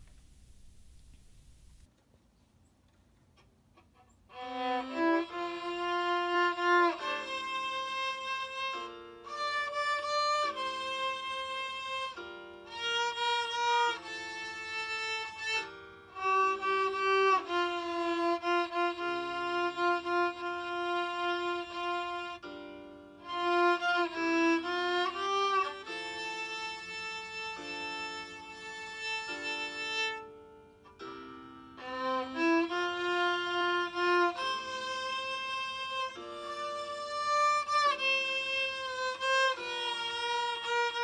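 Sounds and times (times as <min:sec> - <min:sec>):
violin slow melody: 0:04.3 - 0:41.0.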